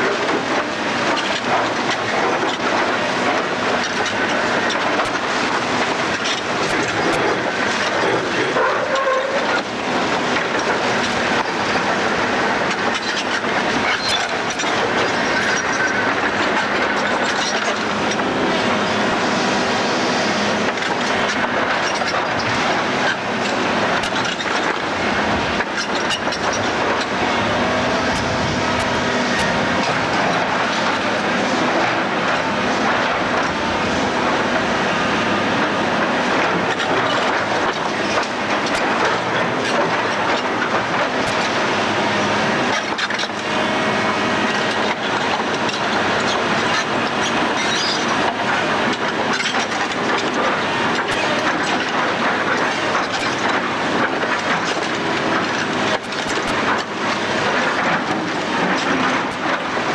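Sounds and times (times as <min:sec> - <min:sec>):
demolition machinery clattering: 0:00.0 - 0:59.9.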